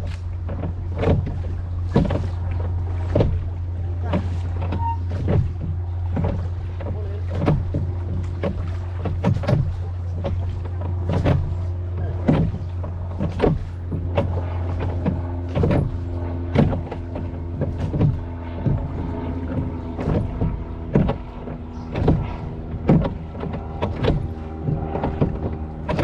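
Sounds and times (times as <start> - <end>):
low hum: 0.0 - 26.0
oars knocking and splashing: 0.0 - 26.0.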